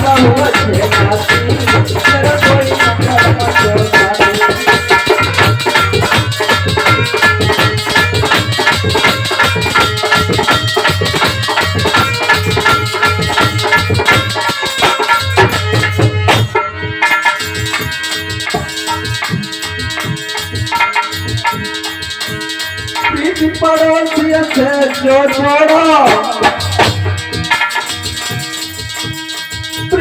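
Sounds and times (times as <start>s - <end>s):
fast hand drum rhythm: 0.0s - 30.0s
percussion: 0.0s - 30.0s.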